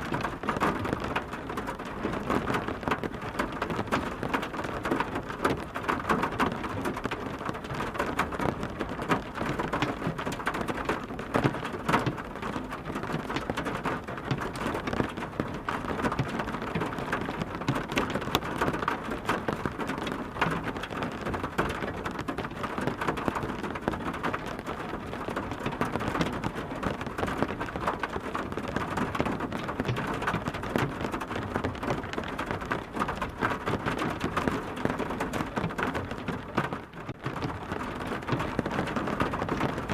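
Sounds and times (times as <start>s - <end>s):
heavy rain: 0.0s - 39.9s
raindrops clicking on a surface: 0.0s - 39.9s.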